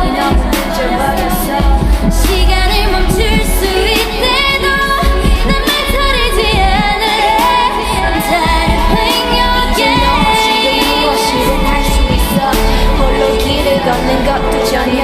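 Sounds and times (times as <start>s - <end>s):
backing track with steady beat: 0.0s - 15.0s
woman singing pop song: 0.0s - 15.0s.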